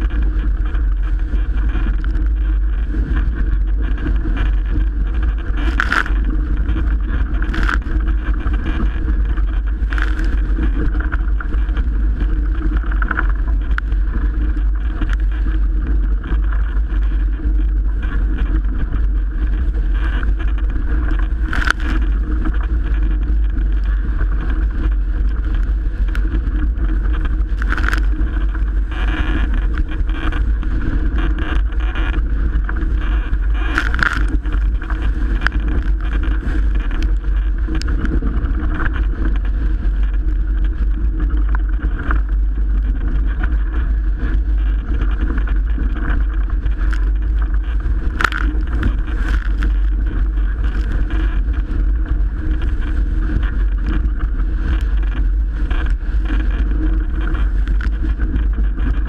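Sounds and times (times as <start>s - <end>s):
water rushing along hull: 0.0s - 59.0s
wind buffeting microphone: 0.0s - 59.0s.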